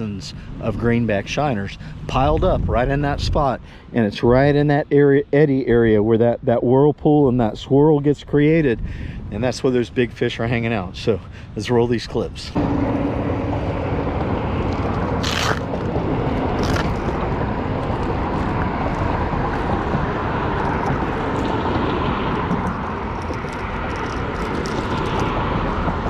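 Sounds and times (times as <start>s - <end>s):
wind buffeting microphone: 0.0s - 4.6s, 7.4s - 26.0s.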